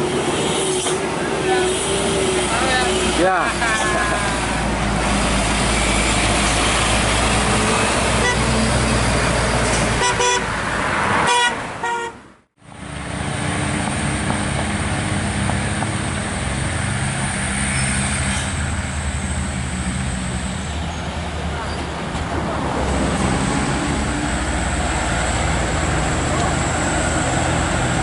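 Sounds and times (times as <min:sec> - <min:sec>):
heavy vehicle engines running: 0:00.0 - 0:28.0
road traffic noise: 0:00.0 - 0:28.0.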